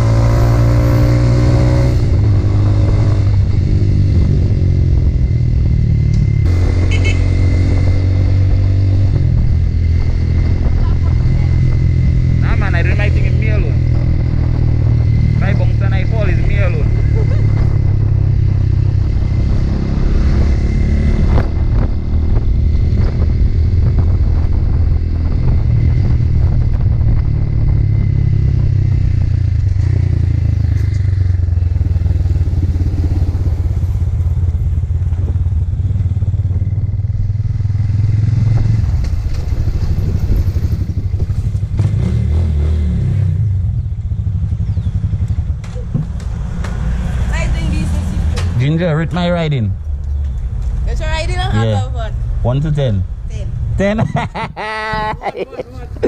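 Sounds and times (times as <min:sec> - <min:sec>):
motorcycle engine running: 0:00.0 - 0:52.5.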